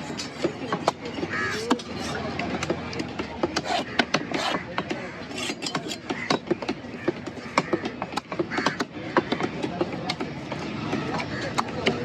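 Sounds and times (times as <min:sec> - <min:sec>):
knife knocking and scraping on block: 0:00.0 - 0:10.3
background chatter: 0:00.0 - 0:12.0.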